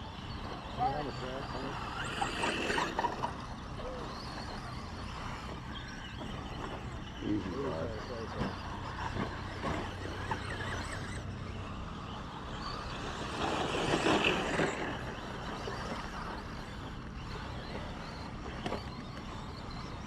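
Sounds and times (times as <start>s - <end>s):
rc trucks racing: 0.0s - 20.0s.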